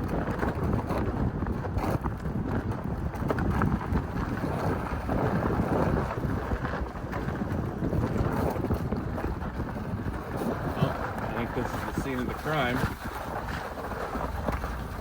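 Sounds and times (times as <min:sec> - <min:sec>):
truck engine and tyres rumble: 0:00.0 - 0:15.0
wind noise on microphone: 0:00.0 - 0:15.0.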